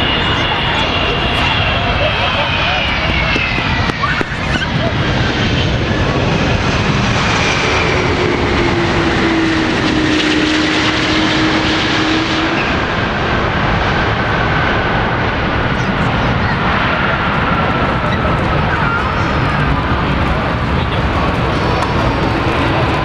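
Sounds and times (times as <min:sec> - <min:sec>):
jet engine roar with whine: 0:00.0 - 0:23.0.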